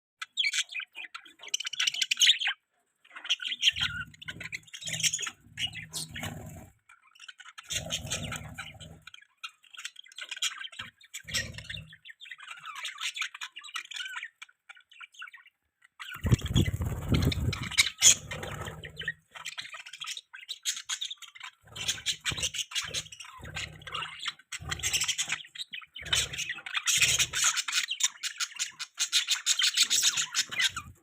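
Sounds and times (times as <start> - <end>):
budgerigars chirping: 0.2 - 31.0.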